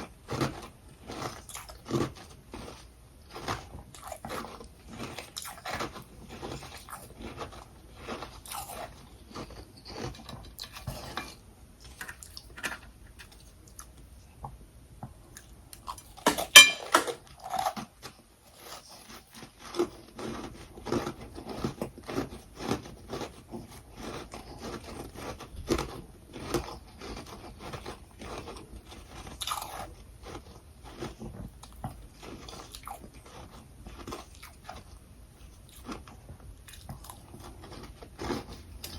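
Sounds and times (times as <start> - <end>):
chewing and crunching ice: 0.0 - 14.1, 15.2 - 38.9.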